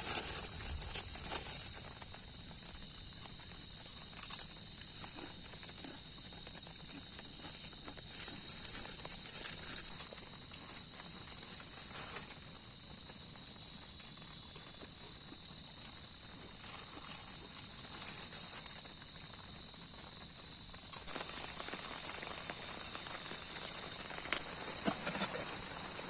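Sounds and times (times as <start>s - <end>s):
night insects chorus: 0.0s - 26.0s.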